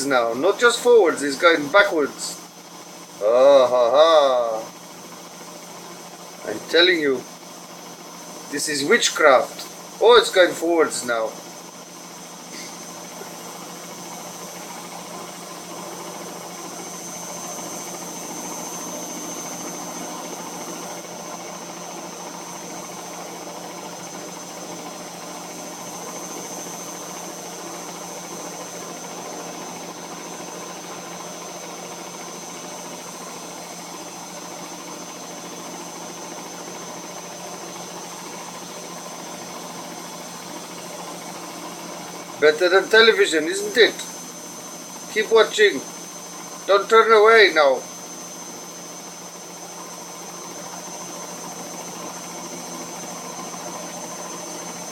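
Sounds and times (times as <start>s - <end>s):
washing machine running: 0.0s - 54.9s.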